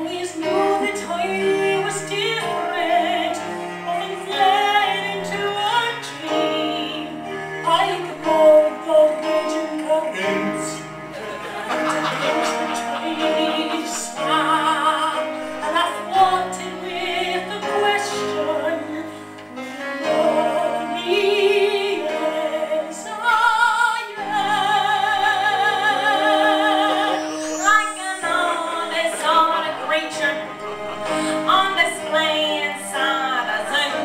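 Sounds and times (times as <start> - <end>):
two people singing a duet: 0.0 - 34.0.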